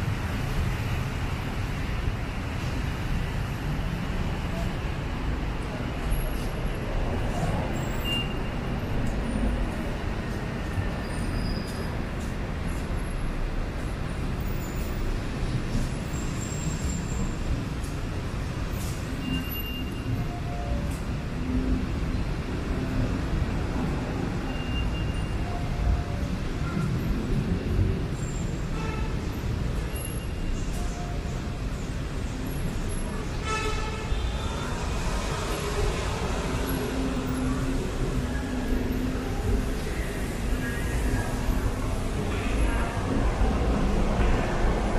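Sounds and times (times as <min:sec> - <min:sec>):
city road traffic rumble: 0:00.0 - 0:44.9.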